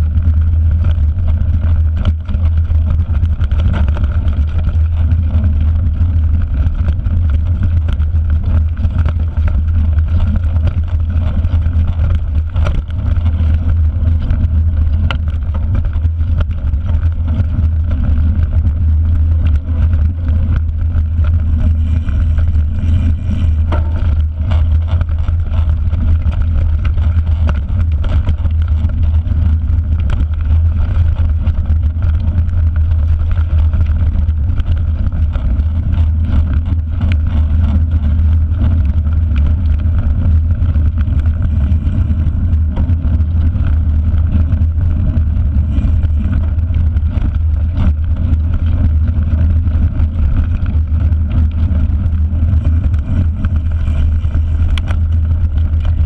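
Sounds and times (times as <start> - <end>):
bike clicks and rattles: 0.0 - 56.0
bike tyre noise: 0.0 - 56.0
wind buffeting microphone: 0.0 - 56.0.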